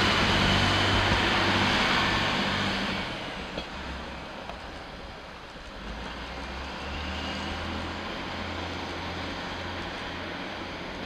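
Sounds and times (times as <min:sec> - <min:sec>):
diesel railcars running past: 0:00.0 - 0:11.0.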